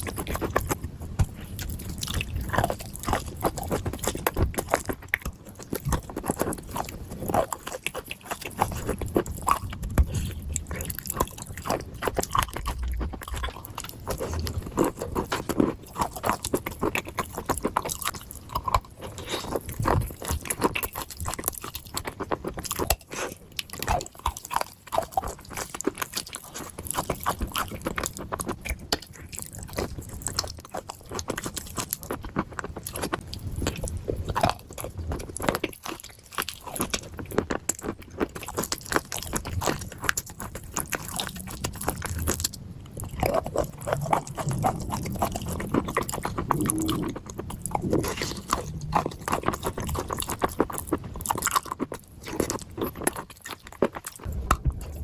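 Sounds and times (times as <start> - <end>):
person chewing dry clay: 0.0 - 55.0.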